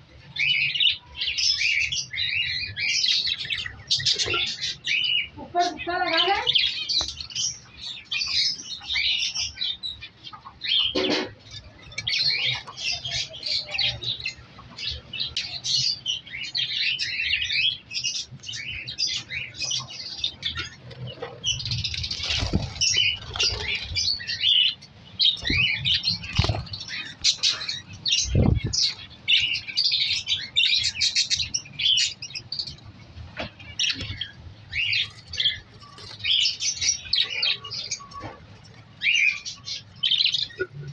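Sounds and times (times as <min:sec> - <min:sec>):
budgerigars chirping: 0:00.3 - 0:33.0, 0:33.6 - 0:40.7.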